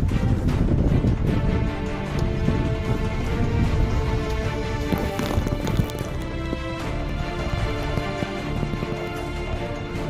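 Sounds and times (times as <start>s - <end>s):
music with held tones: 0.0s - 10.0s.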